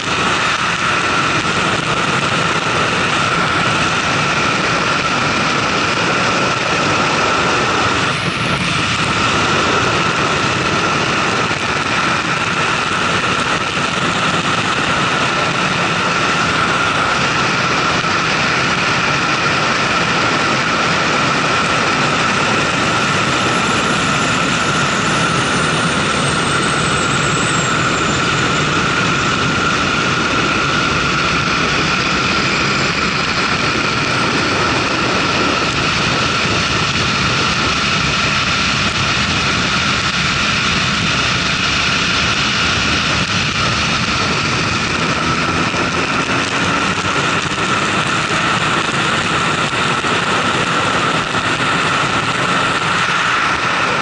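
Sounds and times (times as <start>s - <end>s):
heavy wind noise: 0.0s - 54.0s
motorcycle engine running: 0.0s - 54.0s.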